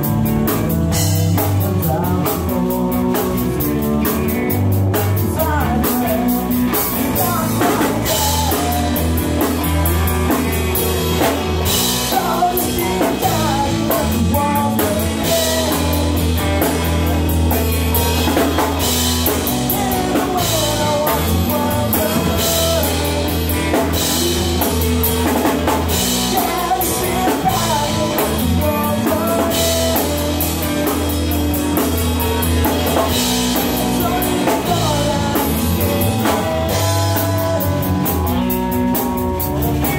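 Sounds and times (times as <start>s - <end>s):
distorted electric guitars: 0.0s - 39.9s
person singing: 0.0s - 39.9s
rock band playing: 0.0s - 39.9s.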